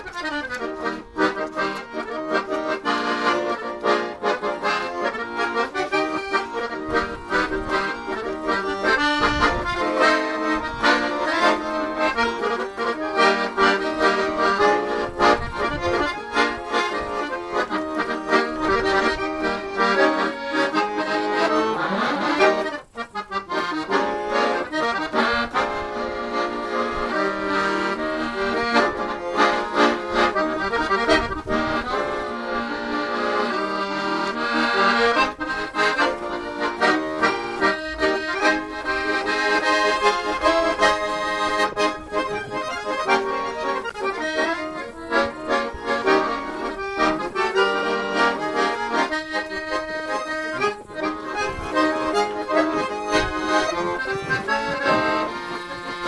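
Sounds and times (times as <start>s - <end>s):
traditional-style instrumental music: 0.0s - 56.0s.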